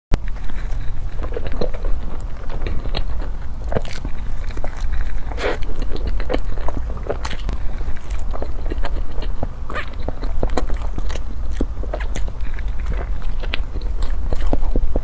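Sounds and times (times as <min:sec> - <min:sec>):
person chewing food: 0:00.1 - 0:15.0
steady low hum: 0:00.1 - 0:15.0.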